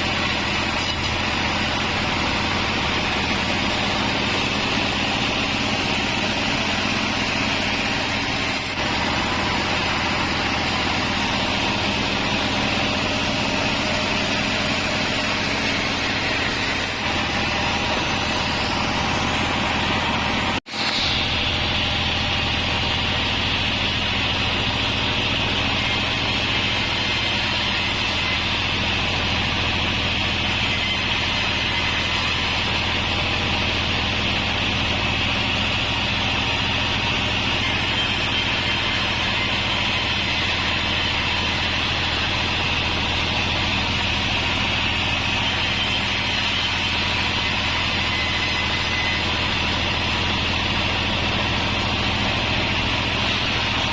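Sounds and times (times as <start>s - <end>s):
bandsaw sawing timber: 0.0s - 53.9s.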